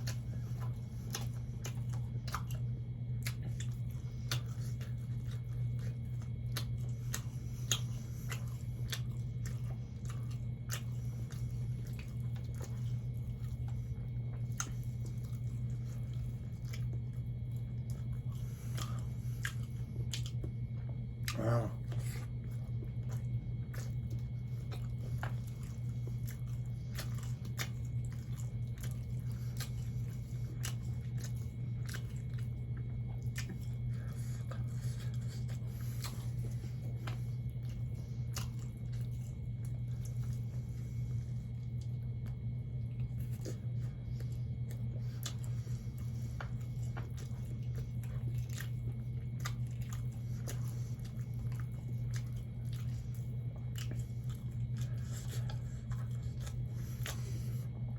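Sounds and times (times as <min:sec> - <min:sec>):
low hum: 0:00.0 - 0:57.9
person chewing crunchy food: 0:00.0 - 0:57.9.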